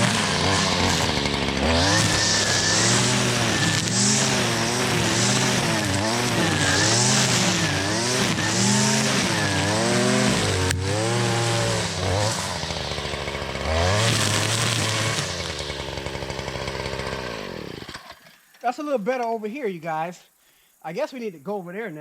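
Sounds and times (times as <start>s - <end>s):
string trimmer engine revving: 0.0s - 18.5s.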